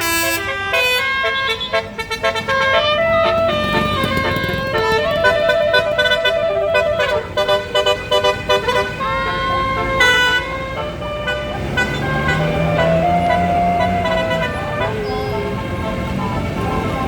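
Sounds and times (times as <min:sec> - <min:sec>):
bus engine: 0:00.0 - 0:17.0
bus horn playing a melody: 0:00.0 - 0:17.0.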